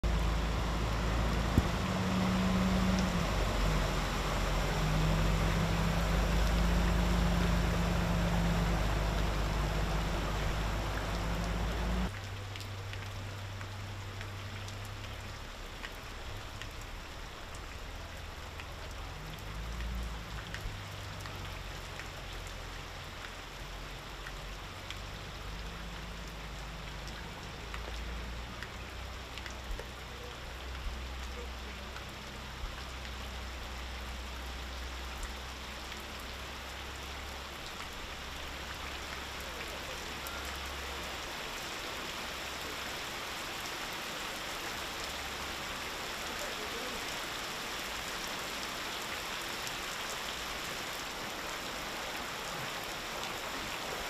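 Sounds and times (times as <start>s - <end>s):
raindrop ticks: 0.0s - 43.3s
heavy rain pouring: 0.0s - 54.0s.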